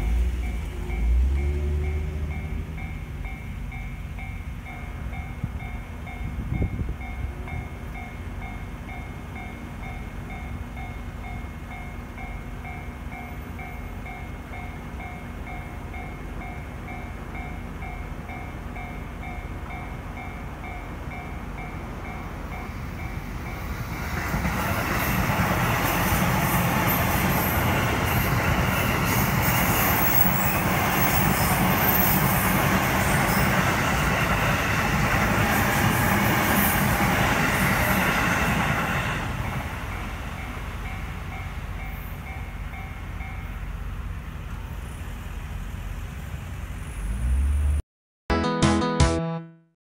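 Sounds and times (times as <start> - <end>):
train wheels rushing on rails: 0.0 - 47.0.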